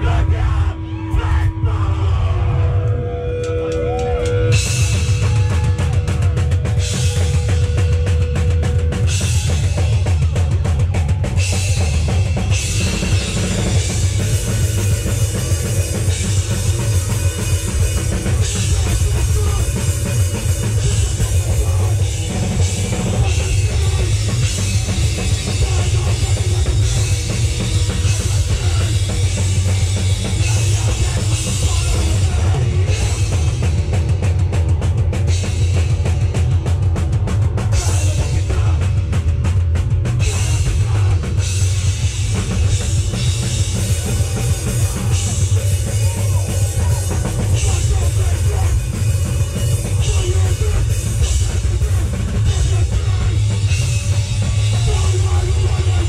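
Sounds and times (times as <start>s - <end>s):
bass drum: 0.0s - 56.0s
rock band playing live: 0.0s - 56.0s.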